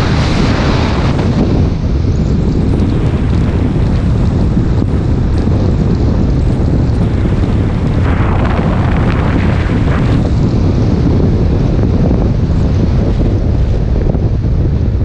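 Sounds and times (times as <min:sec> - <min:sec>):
car road noise: 0:00.0 - 0:15.0
wind rushing over microphone: 0:00.0 - 0:15.0.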